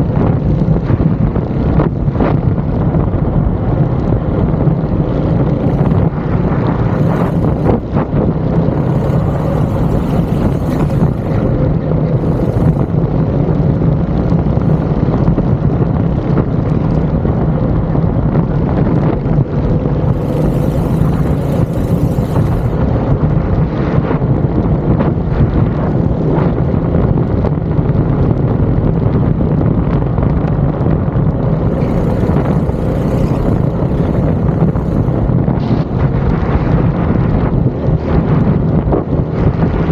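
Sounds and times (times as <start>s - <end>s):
go-kart engine running: 0.0s - 39.9s
wind buffeting microphone: 0.0s - 39.9s.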